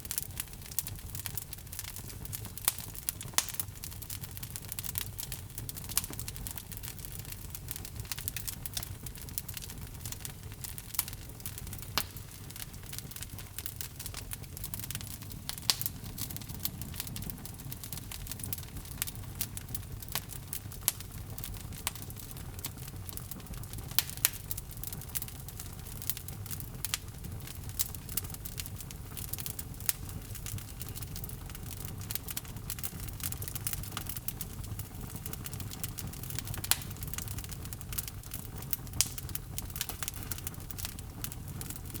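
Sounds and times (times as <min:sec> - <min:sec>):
fire rumbling: 0:00.0 - 0:42.0
logs crackling and popping: 0:00.0 - 0:42.0.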